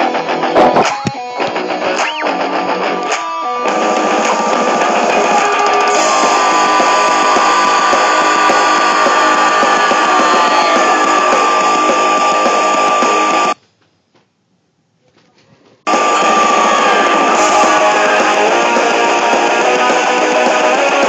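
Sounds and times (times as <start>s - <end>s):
rock music: 0.0s - 13.6s, 15.9s - 21.0s
sustained distorted guitar: 0.0s - 13.6s, 15.9s - 21.0s.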